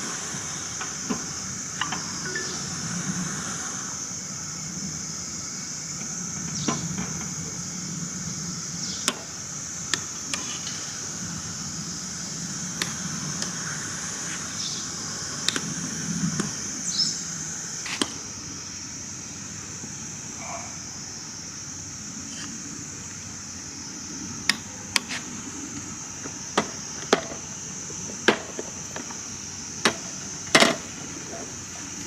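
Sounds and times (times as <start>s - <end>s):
high-pitched outdoor hiss: 0.0s - 32.0s.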